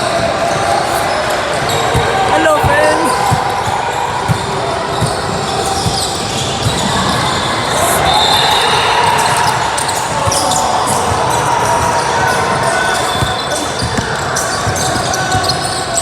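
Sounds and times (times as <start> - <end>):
chatter of voices: 0.0 - 16.0
basketballs bouncing on gym floor: 1.5 - 7.6, 9.1 - 16.0.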